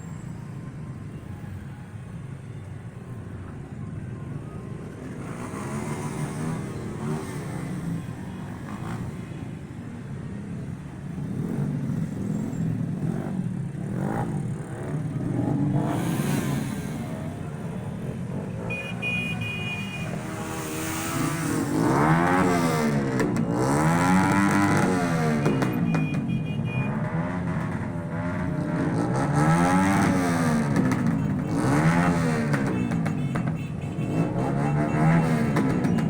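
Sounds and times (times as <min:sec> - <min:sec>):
cars and motorcycles driving by: 0:00.0 - 0:36.0.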